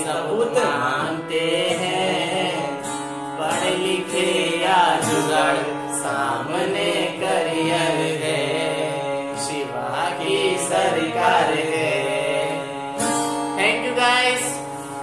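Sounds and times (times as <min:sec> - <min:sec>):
men singing: 0:00.0 - 0:14.6
acoustic guitar: 0:00.0 - 0:15.0
harmonium chords: 0:00.0 - 0:15.0.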